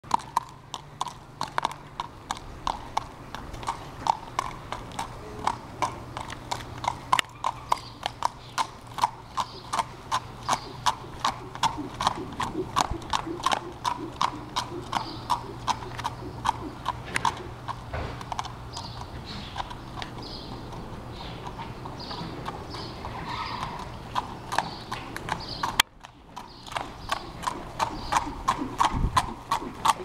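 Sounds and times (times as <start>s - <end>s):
horse hooves on pavement: 0.0s - 30.0s.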